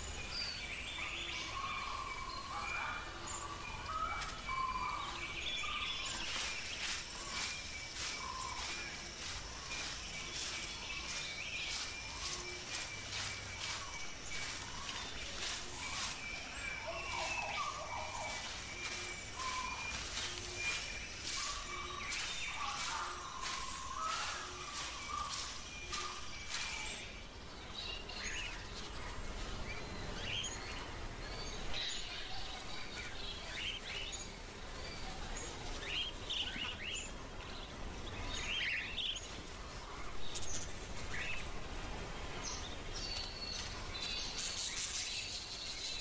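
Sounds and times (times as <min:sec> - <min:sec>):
bird chirps: 0:00.0 - 0:39.4
steady background hiss: 0:00.0 - 0:46.0.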